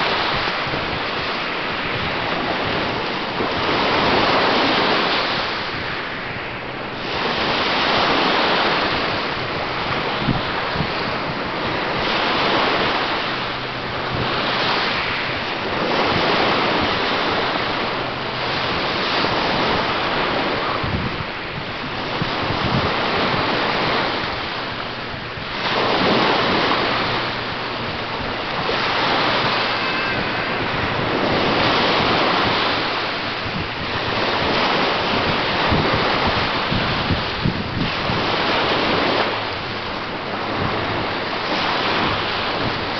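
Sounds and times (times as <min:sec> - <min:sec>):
waves breaking on sandy beach: 0:00.0 - 0:42.9
wind buffeting microphone: 0:00.0 - 0:42.9.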